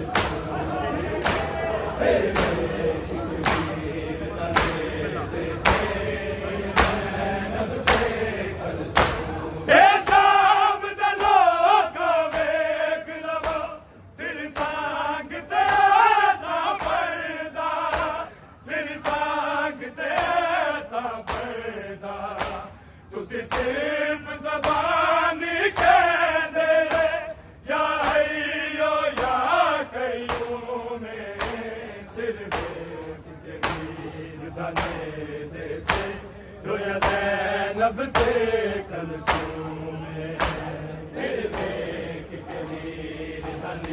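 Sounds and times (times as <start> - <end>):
men chanting in unison: 0.0 - 43.9.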